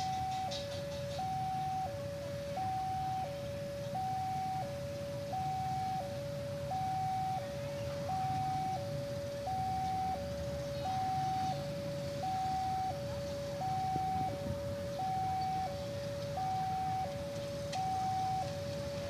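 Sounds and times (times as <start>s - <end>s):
level crossing two-tone alarm: 0.0s - 19.0s
low rumble of vehicle engines: 0.0s - 19.0s.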